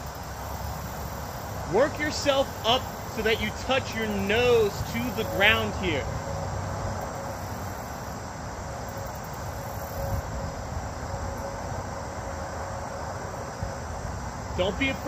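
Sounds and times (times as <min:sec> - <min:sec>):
insects hissing: 0:00.0 - 0:15.0.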